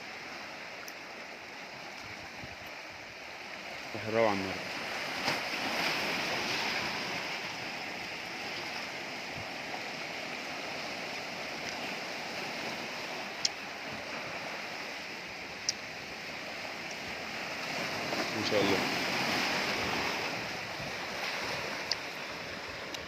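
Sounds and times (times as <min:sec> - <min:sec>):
sea surf washing on shore: 0:00.0 - 0:23.0.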